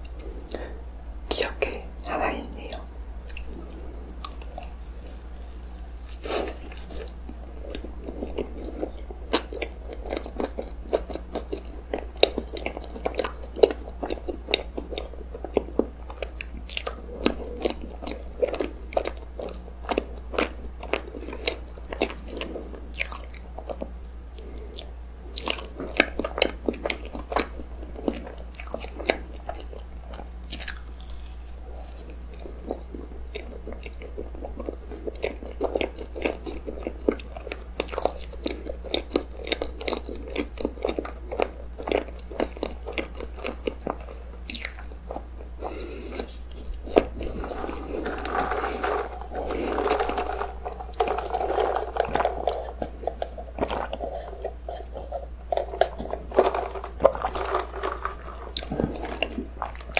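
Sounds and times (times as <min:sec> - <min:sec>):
steady low hum: 0:00.0 - 0:59.9
wet chewing sounds: 0:02.7 - 0:59.9.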